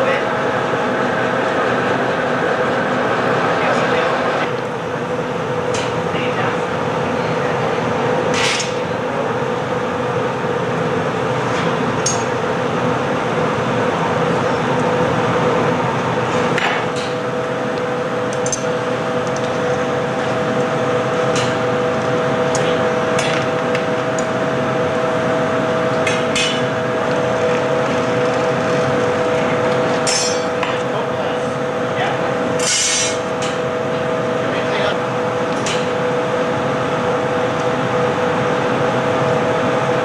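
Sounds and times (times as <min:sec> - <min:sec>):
furnace burners and fans: 0:00.0 - 0:40.0
steady hum tones: 0:00.0 - 0:40.0.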